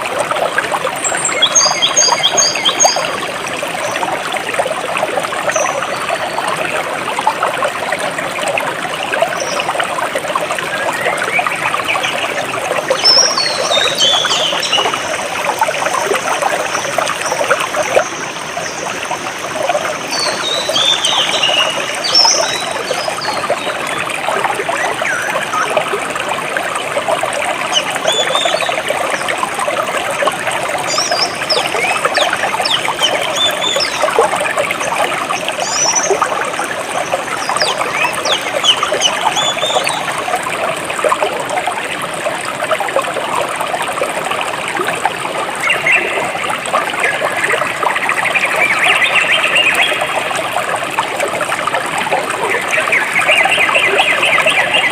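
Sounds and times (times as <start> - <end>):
stream trickling over stones: 0.0 - 54.9.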